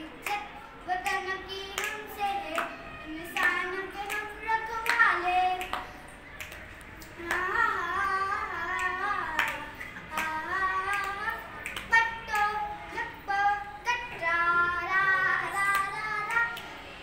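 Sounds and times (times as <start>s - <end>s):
boy singing: 0.0s - 6.1s, 7.0s - 16.7s.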